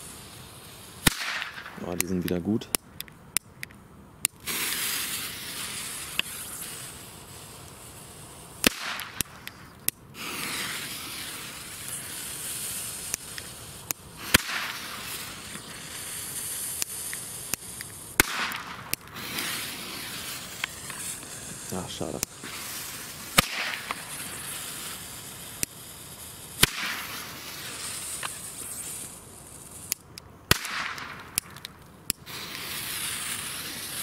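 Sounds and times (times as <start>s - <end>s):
firecrackers banging: 0.0s - 34.0s
lighter and fuse hissing: 0.0s - 34.0s.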